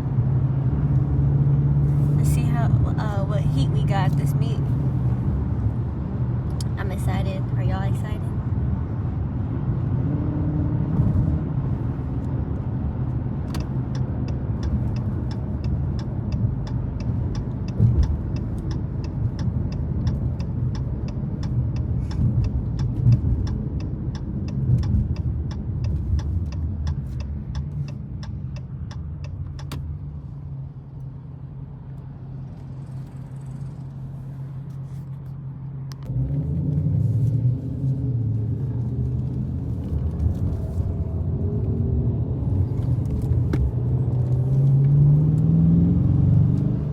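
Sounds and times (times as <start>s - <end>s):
car engine rumbling: 0.0s - 46.9s
turn signal ticking: 0.2s - 8.8s, 11.0s - 45.6s.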